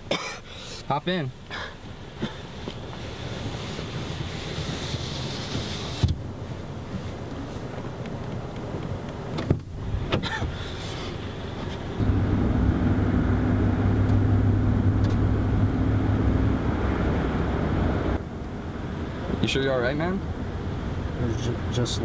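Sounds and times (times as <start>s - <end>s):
car engine and road drone: 0.0s - 22.0s.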